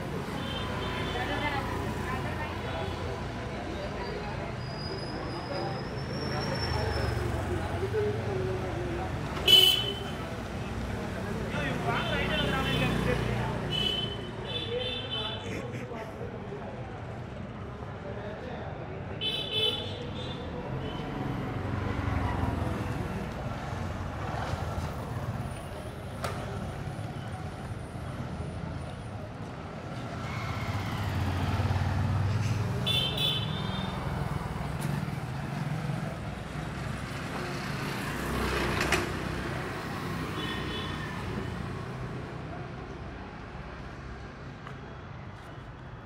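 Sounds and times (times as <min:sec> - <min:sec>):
vehicles passing with engine rumble: 0:00.0 - 0:46.0.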